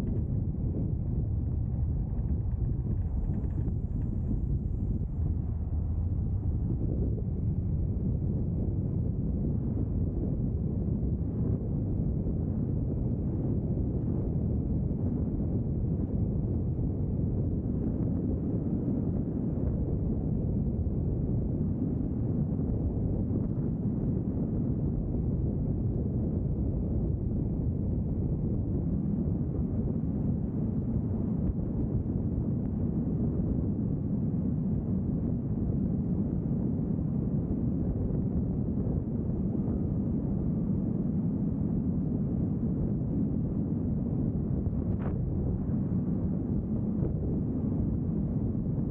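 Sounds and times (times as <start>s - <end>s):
wind noise: 0.0s - 48.9s.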